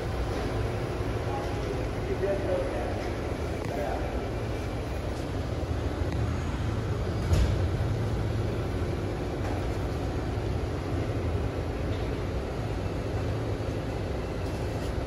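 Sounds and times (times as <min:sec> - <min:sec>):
low hum of turning driveshaft: 0:00.0 - 0:15.0.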